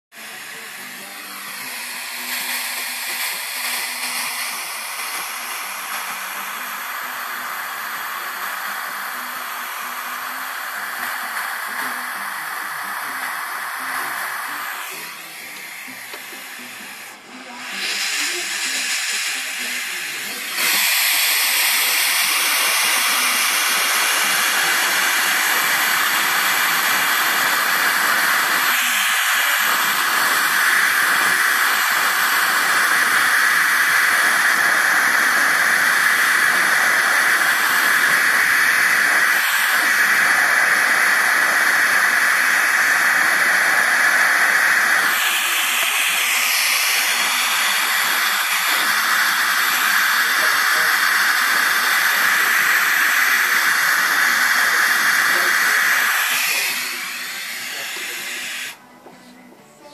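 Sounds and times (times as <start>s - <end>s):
gas torch flame hissing: 0.1s - 59.2s.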